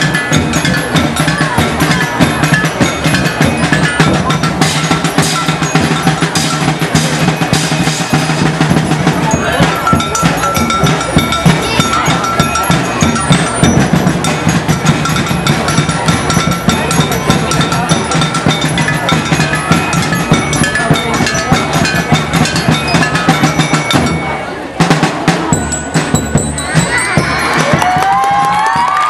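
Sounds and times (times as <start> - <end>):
ringing bell-like metal tones: 0.0 - 24.8, 25.4 - 27.8
drums beating fast rhythm: 0.0 - 29.0.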